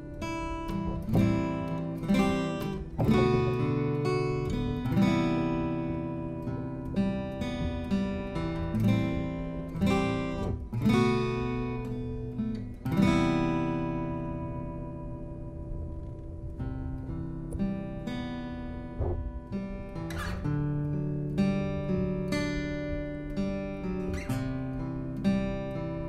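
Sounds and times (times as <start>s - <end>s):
acoustic guitar chords: 0.0s - 26.0s.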